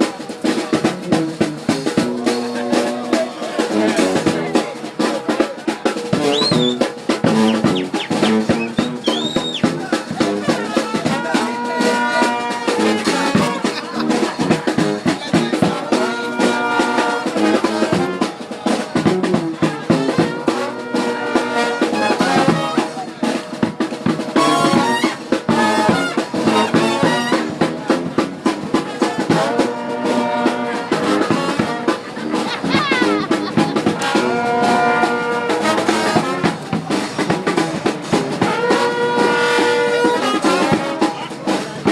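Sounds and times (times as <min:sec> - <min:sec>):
brass band playing: 0:00.0 - 0:41.9
snare and bass drum beat: 0:00.0 - 0:41.9
trombone: 0:00.0 - 0:41.9
trumpet: 0:00.0 - 0:41.9.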